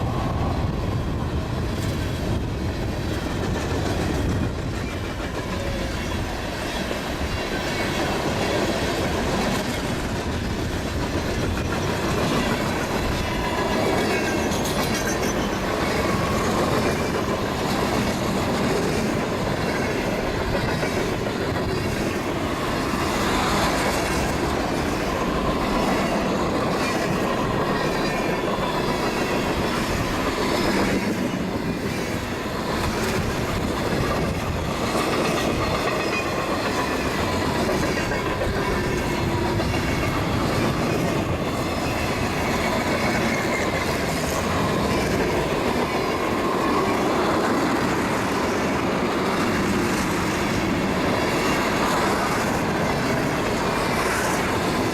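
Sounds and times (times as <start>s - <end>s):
freight train wheels clattering: 0.0s - 54.9s.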